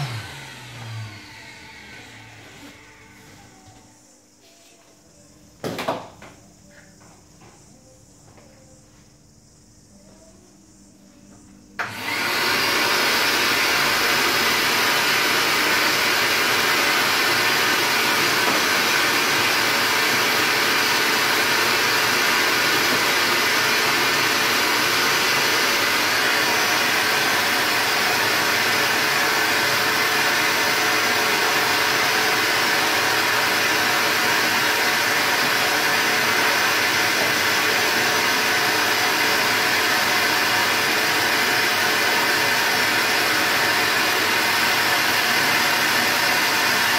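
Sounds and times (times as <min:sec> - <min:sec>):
shop vacuum running: 0:00.0 - 0:04.0, 0:11.0 - 0:46.9.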